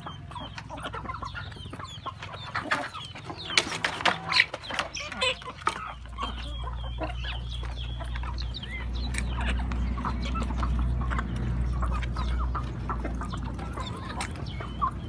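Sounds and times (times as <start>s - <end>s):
hens and roosters clucking: 0.0s - 15.0s.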